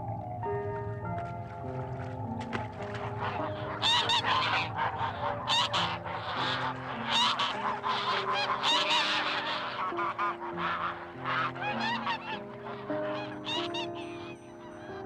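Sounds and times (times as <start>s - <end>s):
soft background music: 0.0s - 15.0s
waterfowl honking: 2.4s - 15.0s.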